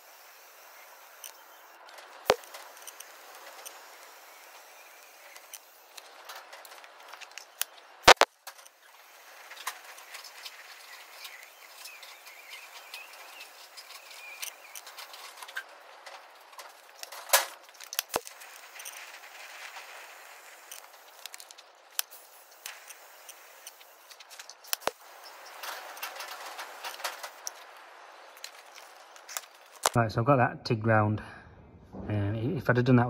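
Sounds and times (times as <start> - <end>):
sharp welding cracks: 0.0 - 30.0
welding arc hissing and crackling: 0.0 - 30.0.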